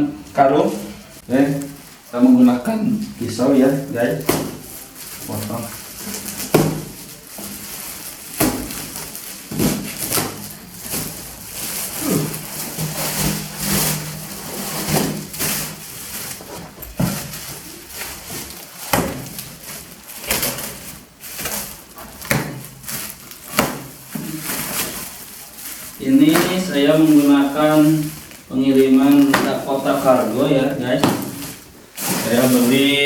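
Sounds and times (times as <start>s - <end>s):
knife cutting plastic sack: 3.0s - 33.0s.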